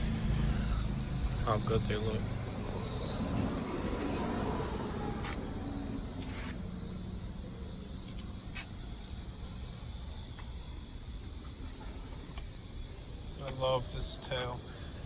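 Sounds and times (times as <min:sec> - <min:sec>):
low rumble with hiss: 0:00.0 - 0:15.0.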